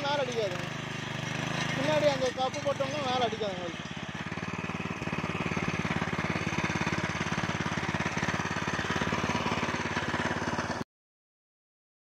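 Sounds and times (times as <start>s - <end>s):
petrol engine running steadily: 0.0s - 10.8s
rotary blades tilling soil: 0.0s - 10.8s.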